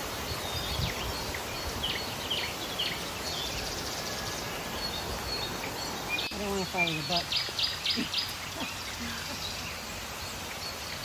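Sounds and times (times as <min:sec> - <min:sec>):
bird chirping: 0:00.0 - 0:11.0
steady rushing hiss: 0:00.0 - 0:11.0.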